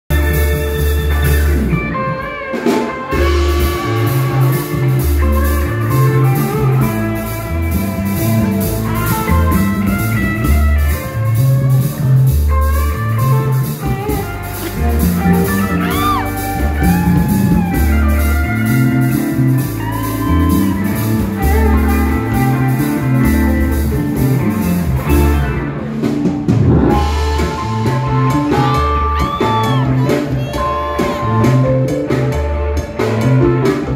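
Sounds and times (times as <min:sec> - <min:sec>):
bass line: 0:00.0 - 0:33.9
keyboard: 0:00.0 - 0:33.9
electric guitars: 0:00.1 - 0:33.9.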